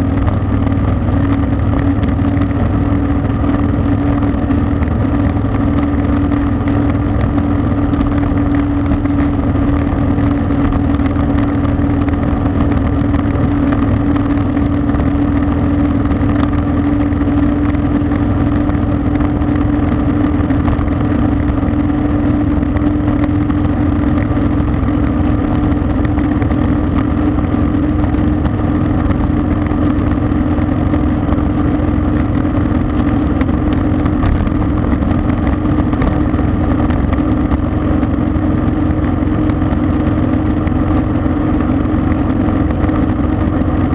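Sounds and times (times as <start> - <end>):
motorcycle engine drone: 0.0 - 43.9
road noise: 0.0 - 43.9
wind noise: 0.0 - 43.9.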